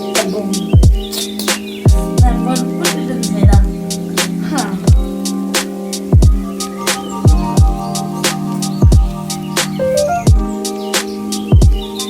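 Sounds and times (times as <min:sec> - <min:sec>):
hip-hop beat music: 0:00.0 - 0:12.0.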